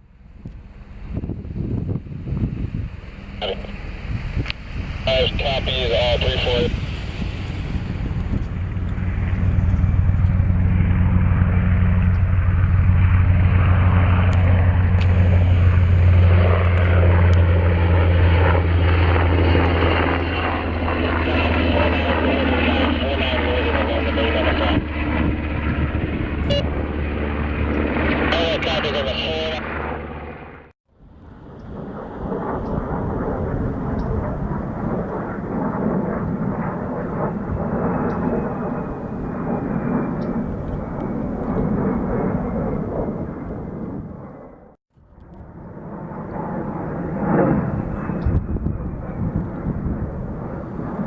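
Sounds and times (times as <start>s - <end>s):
aircraft engines droning: 0.0s - 51.0s.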